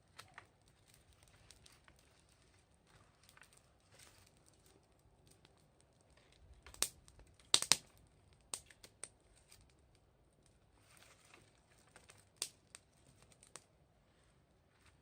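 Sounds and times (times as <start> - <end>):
wood fire crackling: 0.0 - 14.2.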